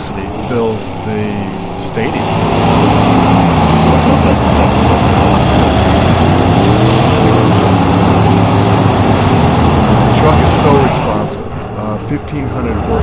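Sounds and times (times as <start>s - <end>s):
monster truck engine running loud: 0.0s - 13.0s.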